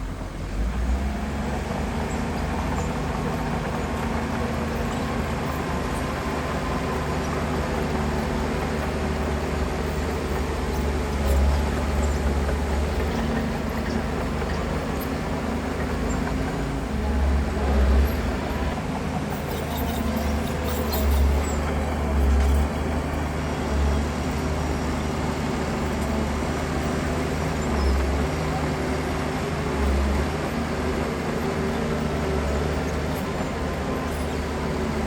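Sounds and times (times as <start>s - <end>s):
heavy machinery diesel engine: 0.0s - 35.0s.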